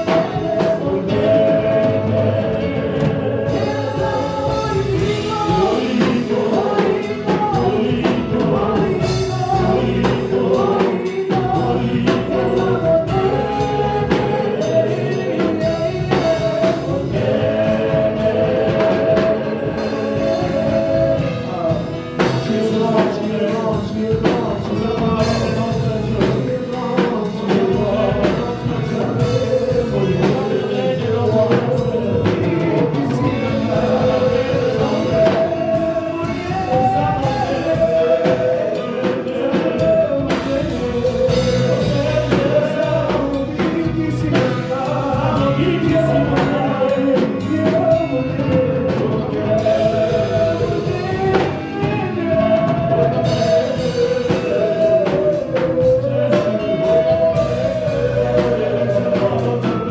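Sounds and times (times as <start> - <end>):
band with drums: 0.0 - 59.9
choir singing gospel music: 0.0 - 59.9.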